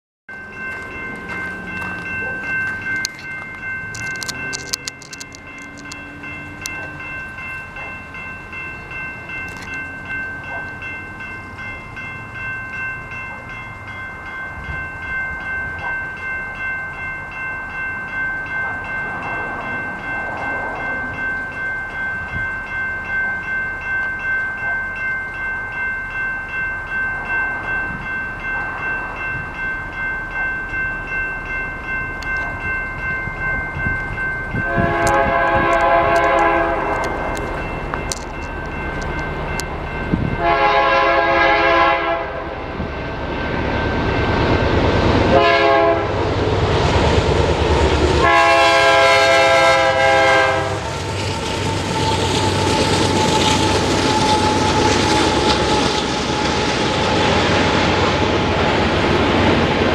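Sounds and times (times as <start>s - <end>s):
crossing warning bell ringing: 0.3s - 59.9s.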